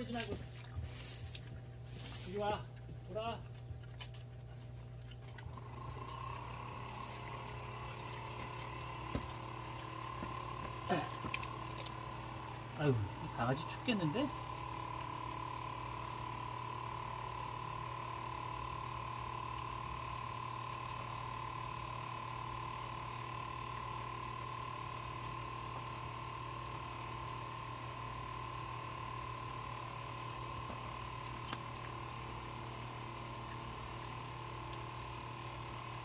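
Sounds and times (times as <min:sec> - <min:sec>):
electric fan humming: 0:00.0 - 0:36.0.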